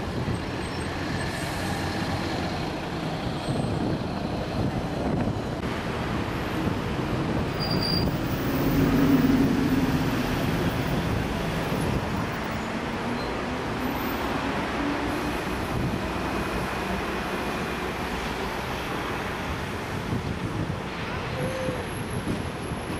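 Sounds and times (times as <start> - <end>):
electric train rumbling on tracks: 0.0 - 22.9.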